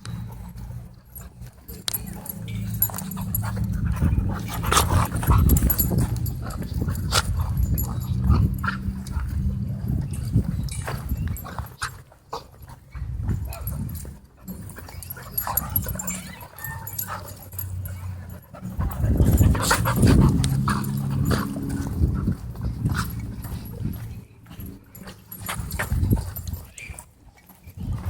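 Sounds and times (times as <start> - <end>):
dogs growling: 0.0 - 28.0.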